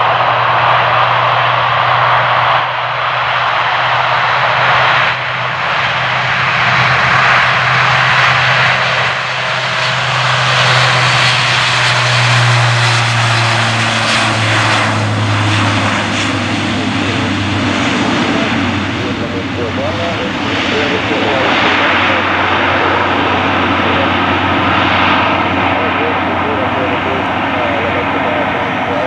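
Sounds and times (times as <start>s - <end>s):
low propeller drone: 0.0s - 29.0s
turboprop engines at take-off power: 0.0s - 29.0s.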